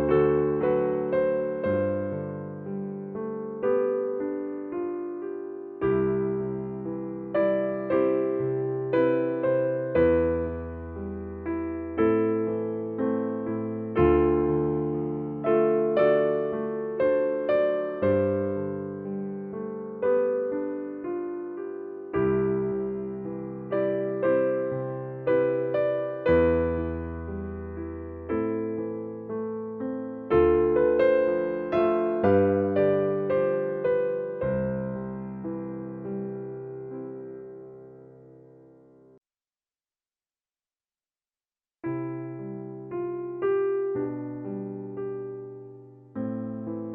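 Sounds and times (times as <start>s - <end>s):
soft solo piano music: 0.0s - 39.2s, 41.8s - 46.9s.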